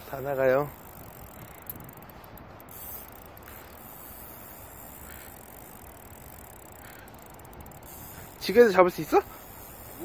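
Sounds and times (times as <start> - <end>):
faint outdoor background hiss: 0.0 - 10.0.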